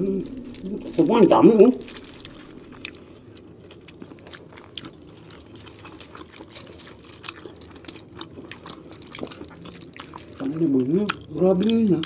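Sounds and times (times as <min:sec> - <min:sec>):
faint high-pitched whine: 0:00.0 - 0:12.0
fingers picking at food: 0:00.0 - 0:12.0
people chewing and smacking lips: 0:00.0 - 0:12.0.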